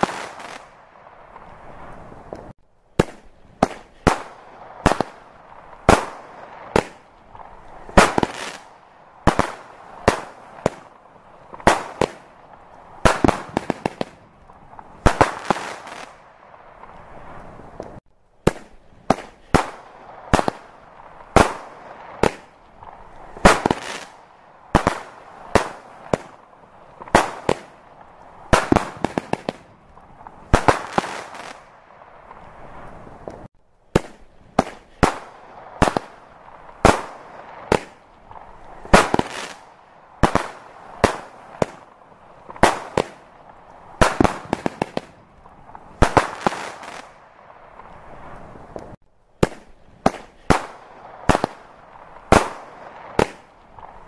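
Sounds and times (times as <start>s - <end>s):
fireworks bursting with loud bangs: 0.0s - 54.0s.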